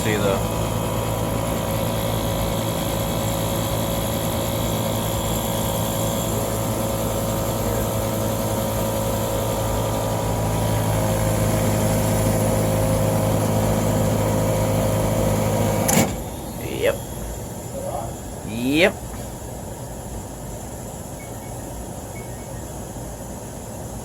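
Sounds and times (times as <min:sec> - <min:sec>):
hvac unit humming: 0:00.0 - 0:24.0.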